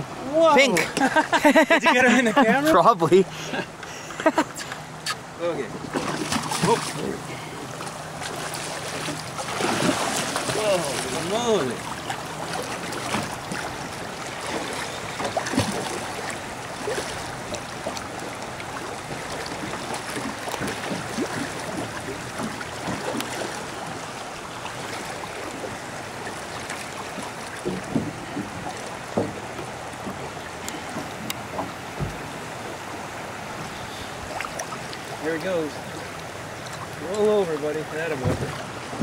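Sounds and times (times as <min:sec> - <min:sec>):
water splashing against boat: 0:00.0 - 0:39.0.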